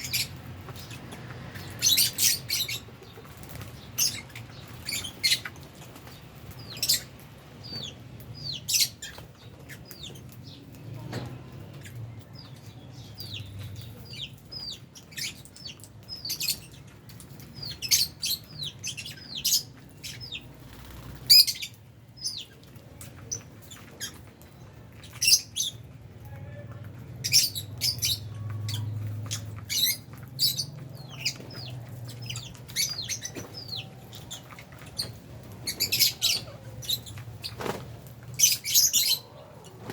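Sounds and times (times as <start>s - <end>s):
lovebirds chirping and shrieking: 0.0s - 39.9s.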